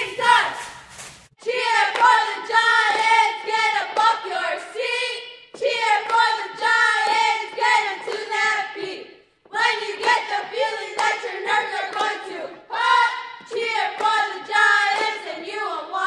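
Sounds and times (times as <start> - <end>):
cheerleaders chanting in unison: 0.0 - 16.0.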